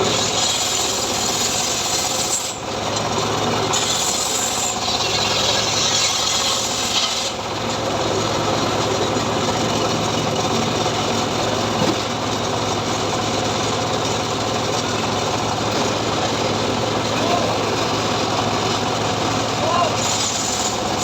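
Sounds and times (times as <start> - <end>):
saw blade cutting log: 0.0 - 9.6, 12.9 - 21.0
small engine running: 0.0 - 21.0.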